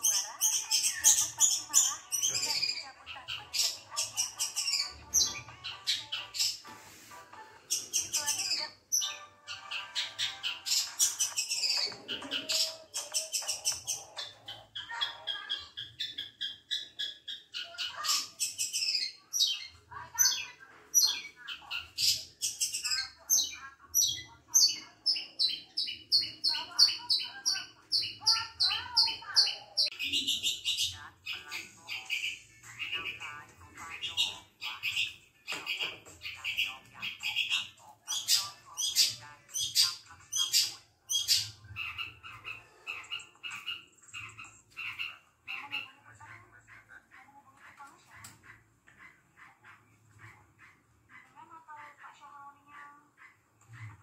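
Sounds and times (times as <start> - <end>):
bird singing chattering song: 0.0 - 6.6, 7.6 - 46.0.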